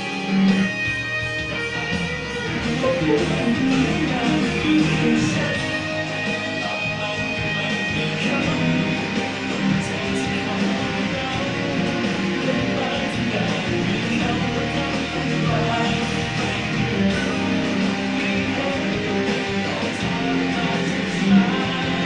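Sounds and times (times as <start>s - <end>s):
rock song with strummed guitar: 0.0s - 22.0s.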